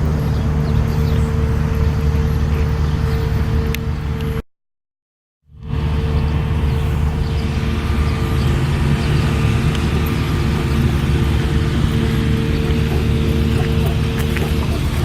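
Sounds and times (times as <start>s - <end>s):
motor vehicle hum: 0.0s - 4.4s, 5.5s - 15.0s.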